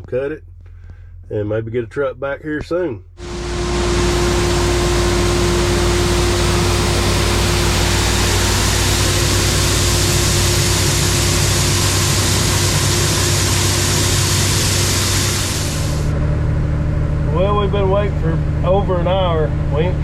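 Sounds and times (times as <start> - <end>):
combine harvester running: 3.2 - 20.0.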